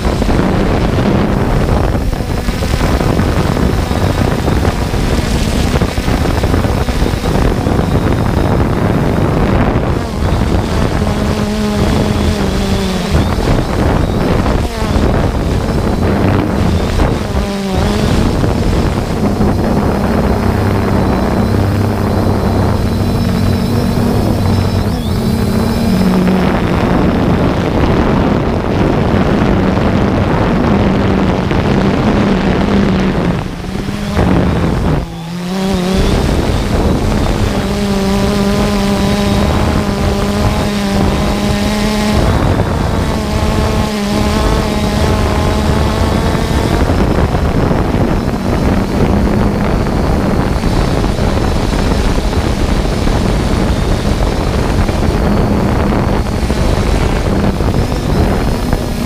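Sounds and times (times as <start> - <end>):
drone propellers buzzing: 0.0 - 59.0
wind buffeting microphone: 0.0 - 59.0.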